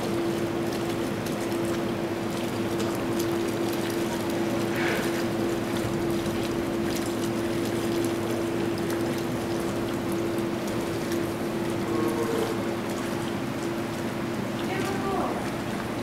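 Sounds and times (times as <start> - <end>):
liquid sloshing and splashing: 0.0 - 16.0
steady machine hum: 0.0 - 16.0.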